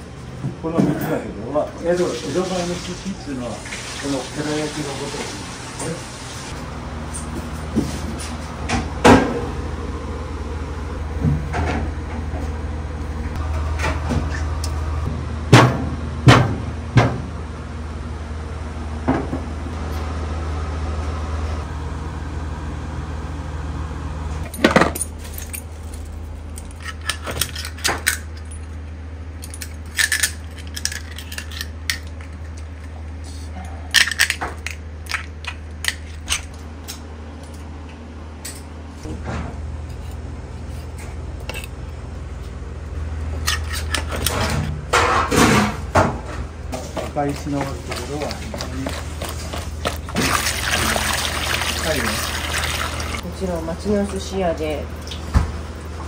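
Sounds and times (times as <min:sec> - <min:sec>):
steady low hum: 0:05.0 - 0:56.0.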